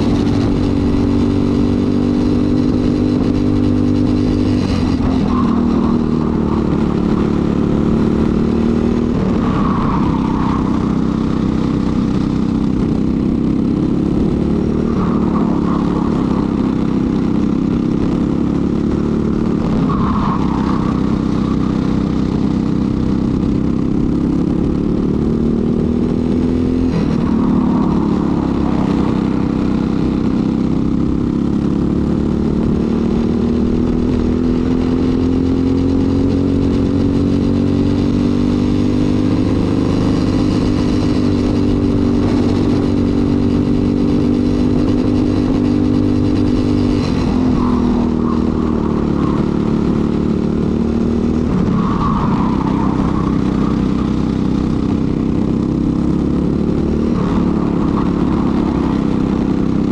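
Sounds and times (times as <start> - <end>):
kart engine revving hard: 0.0 - 33.1, 38.9 - 59.9.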